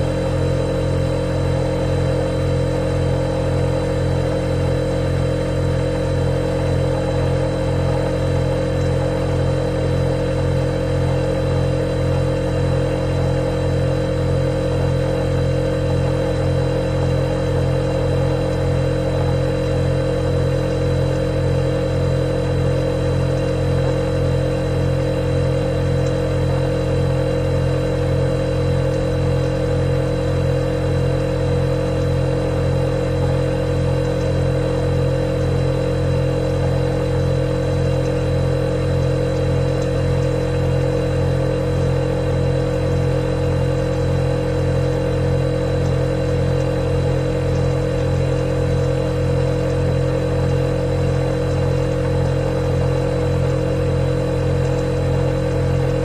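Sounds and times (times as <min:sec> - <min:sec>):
refrigerator compressor hum: 0:00.0 - 0:56.0.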